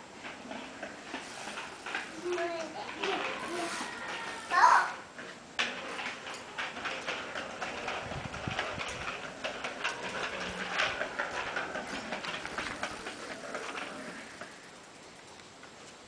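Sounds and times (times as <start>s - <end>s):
bicycle rattling on tiled floor: 0.0s - 16.0s.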